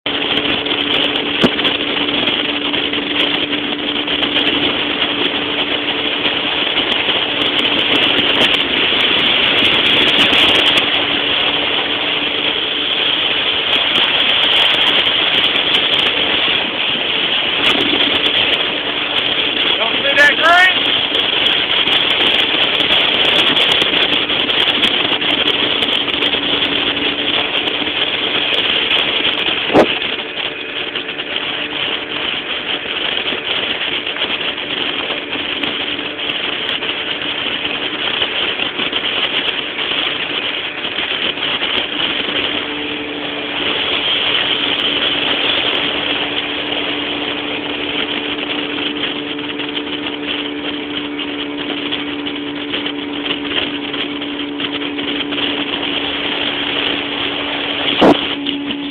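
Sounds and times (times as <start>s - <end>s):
boat motor running: 0.0s - 58.9s
rushing noise: 0.1s - 58.9s.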